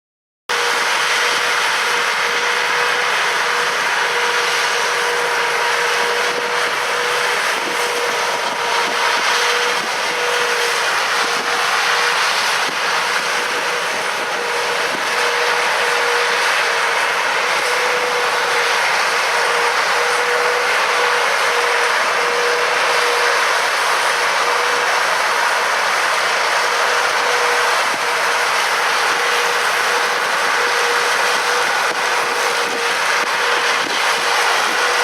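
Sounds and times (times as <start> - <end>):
combine threshing and fans: 0.5 - 35.0
steady mechanical whine: 0.5 - 35.0.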